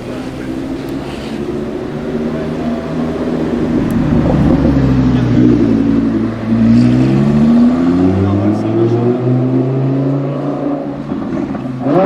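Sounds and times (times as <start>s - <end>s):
car engine low steady note: 0.0s - 11.9s.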